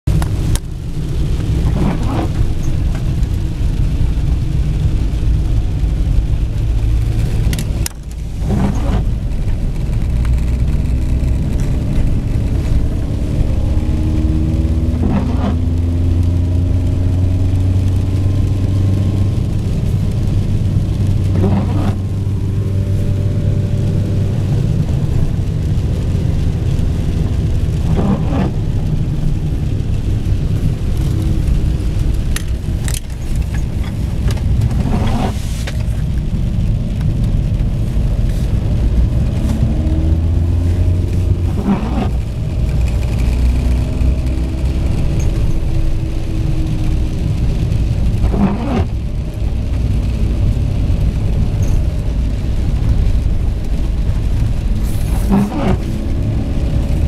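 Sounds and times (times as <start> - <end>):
car engine and road rumble: 0.0 - 57.0
tyres on wet road: 0.0 - 57.0.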